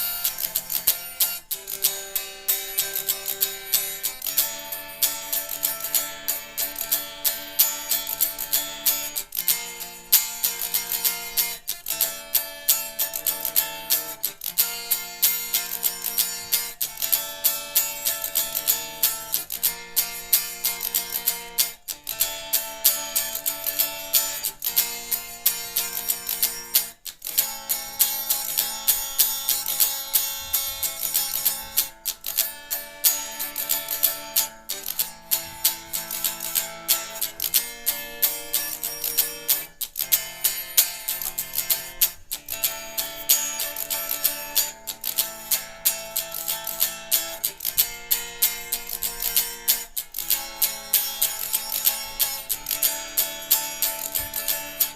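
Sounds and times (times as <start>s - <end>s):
acoustic guitar strumming chords: 0.0s - 54.9s.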